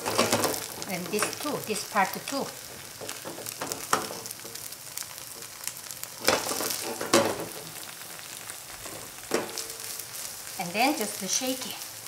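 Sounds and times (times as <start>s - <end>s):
pancake sizzling in hot oil: 0.0s - 12.0s.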